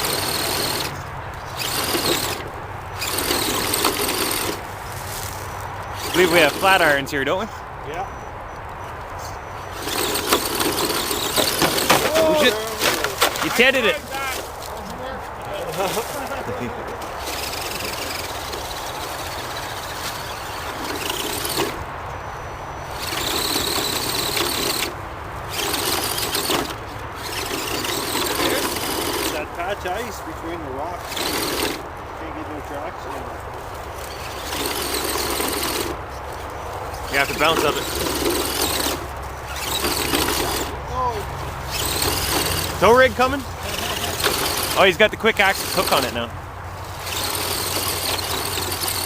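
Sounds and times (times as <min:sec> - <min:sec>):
electric motor and gears whining: 0:00.0 - 0:49.0.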